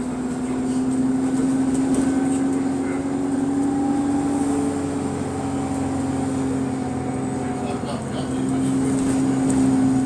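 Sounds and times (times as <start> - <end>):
bus engine droning with exhaust leak: 0.0 - 10.0.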